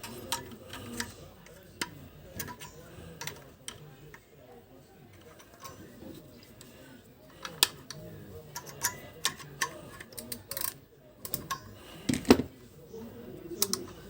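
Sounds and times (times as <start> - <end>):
small parts and tools clicking: 0.0 - 4.2, 5.1 - 6.7, 7.3 - 12.4, 13.6 - 14.0.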